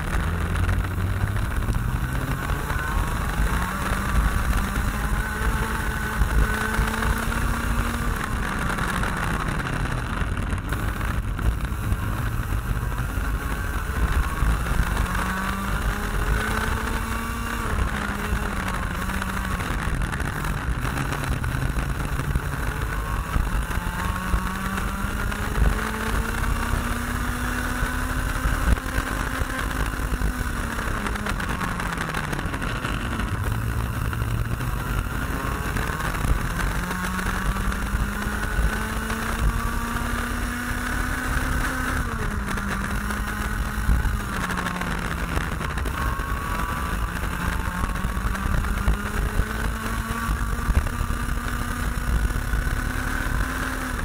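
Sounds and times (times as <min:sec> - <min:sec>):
kart engine revving: 0:00.0 - 0:54.0
wind rumble on microphone: 0:00.0 - 0:54.0.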